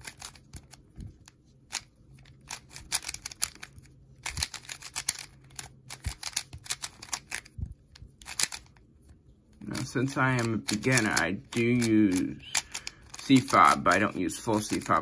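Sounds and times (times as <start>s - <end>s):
plastic puzzle cube clicking: 0.0s - 0.8s, 1.7s - 7.6s, 8.2s - 8.8s, 9.8s - 15.0s.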